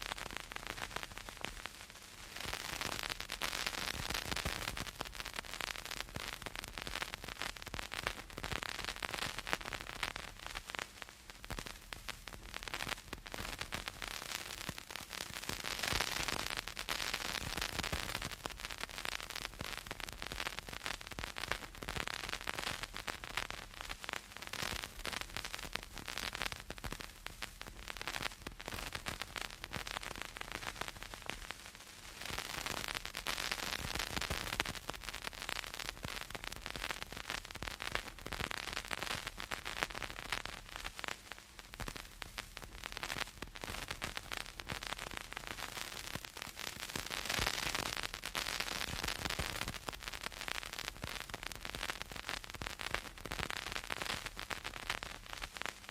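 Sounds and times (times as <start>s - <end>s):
vinyl crackles and pops: 0.0s - 55.9s
vinyl surface hiss: 0.0s - 55.9s.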